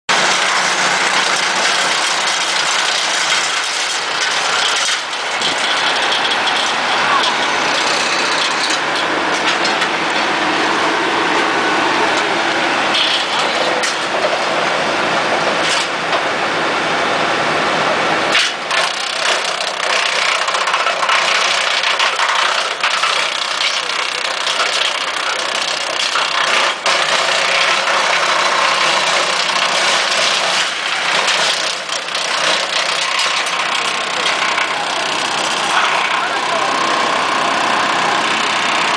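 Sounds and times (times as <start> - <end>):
wood chipper running: 0.1 - 38.9.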